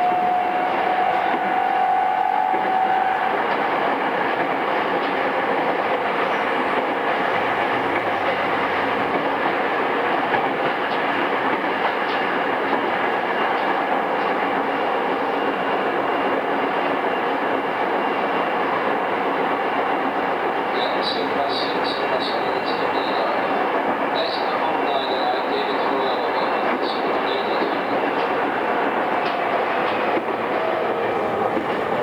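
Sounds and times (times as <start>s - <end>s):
train wheels rumbling on rail: 0.0s - 32.0s
clacks over rail joints: 3.4s - 32.0s.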